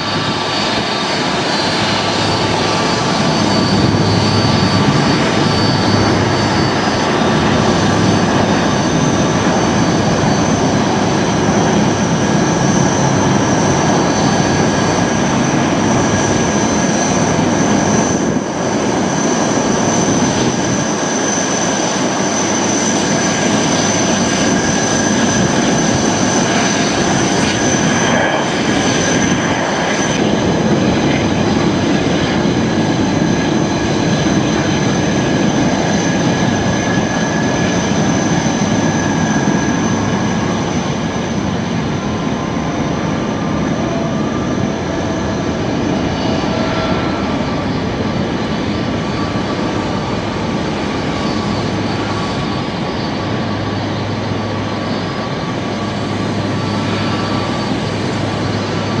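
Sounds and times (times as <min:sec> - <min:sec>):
high engine whine: 0:00.0 - 0:59.0
jet engines rumbling: 0:00.0 - 0:59.0.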